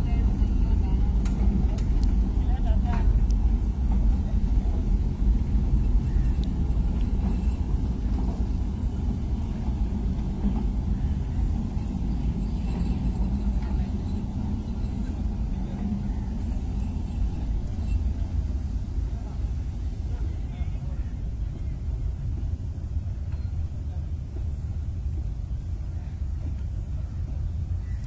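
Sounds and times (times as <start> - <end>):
miniature train rumbling past: 0.0 - 27.8.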